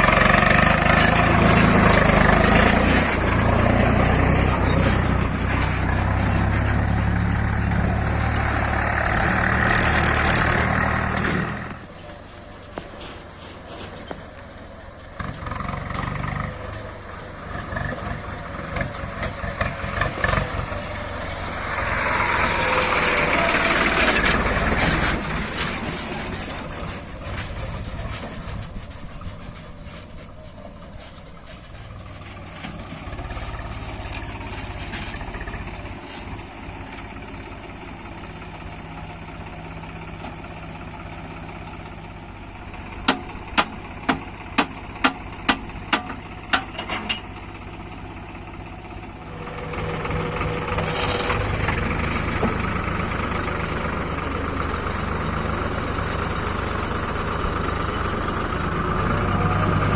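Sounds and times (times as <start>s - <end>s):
backhoe diesel engine: 0.0s - 59.9s.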